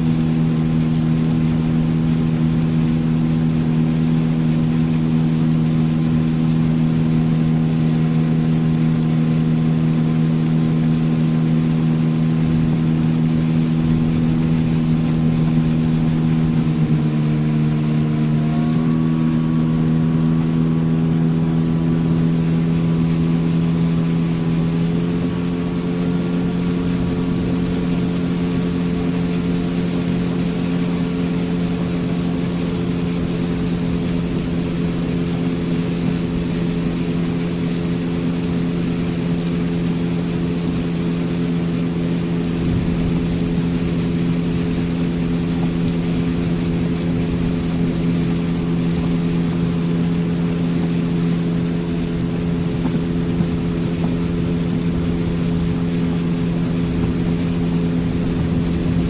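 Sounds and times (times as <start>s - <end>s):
motorboat engine droning: 0.0s - 59.0s
water and wind hiss: 0.0s - 59.0s.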